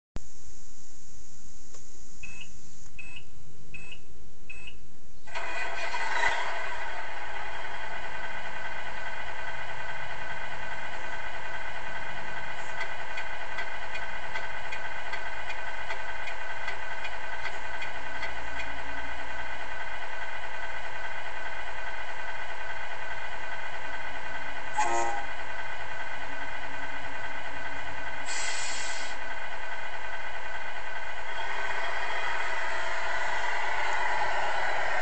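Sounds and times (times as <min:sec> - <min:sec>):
engine idling through small speaker: 0:02.1 - 0:35.0.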